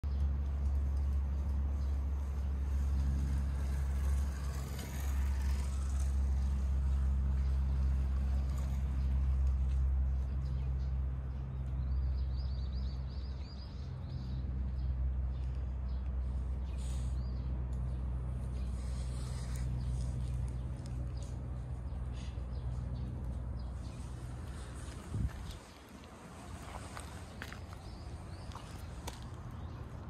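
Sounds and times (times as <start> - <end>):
distant city traffic hum: 0.0 - 30.0.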